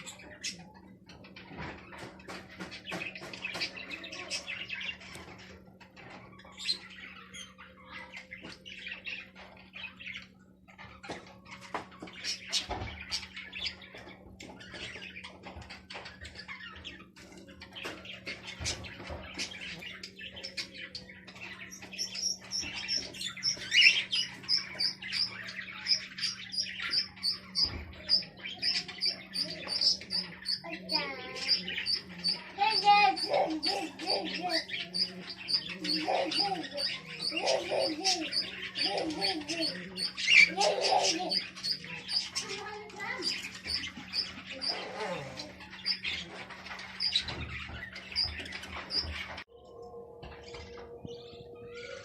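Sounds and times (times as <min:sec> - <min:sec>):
small birds chirping and squawking: 0:00.0 - 0:52.0.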